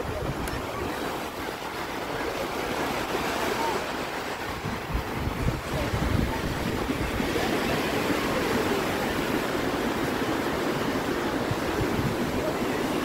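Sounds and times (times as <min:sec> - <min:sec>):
small waves washing up beach: 0:00.0 - 0:13.0.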